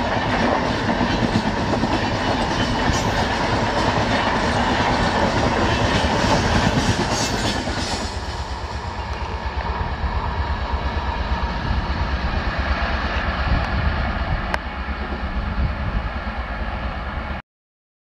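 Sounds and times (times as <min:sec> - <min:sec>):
train wheels rumbling on rails: 0:00.0 - 0:17.4.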